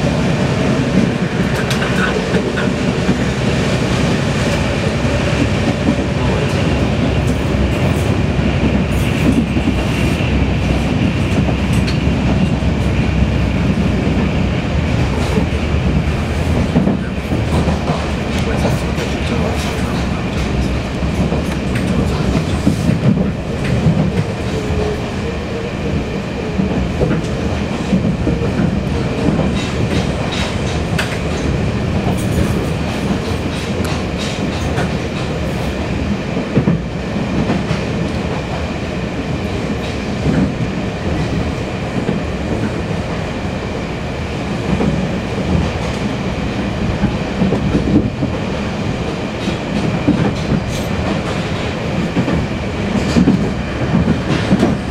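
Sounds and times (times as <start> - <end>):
rail clicks: 0.0 - 54.9
train wheels rumbling on rail: 0.0 - 54.9.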